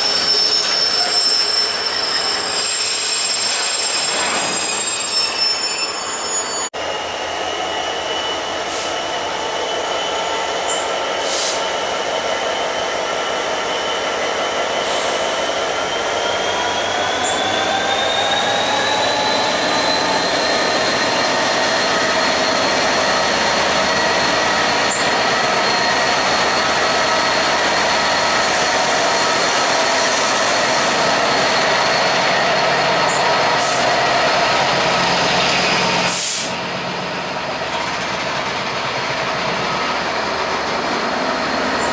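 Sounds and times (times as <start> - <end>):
train multi-tone whine: 0.0 - 41.9.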